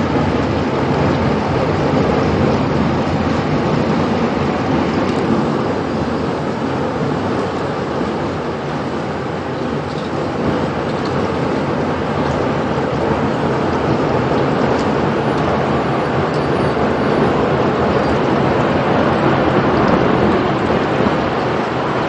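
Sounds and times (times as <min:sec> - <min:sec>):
tornado wind roar: 0:00.0 - 0:22.0.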